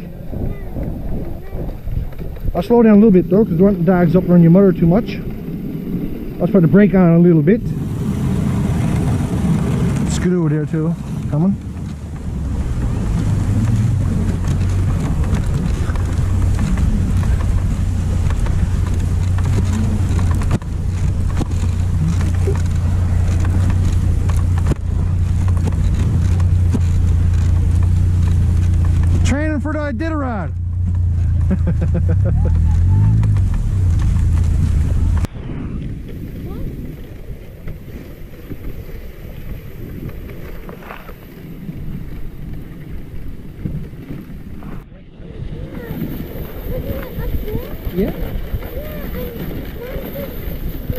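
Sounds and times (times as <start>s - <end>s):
wind rumble on microphone: 0.0s - 50.9s.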